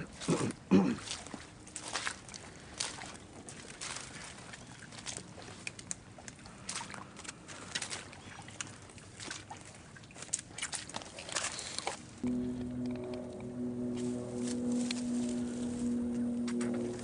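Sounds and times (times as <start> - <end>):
footsteps splashing in shallow water: 0.0 - 12.2, 13.9 - 17.0.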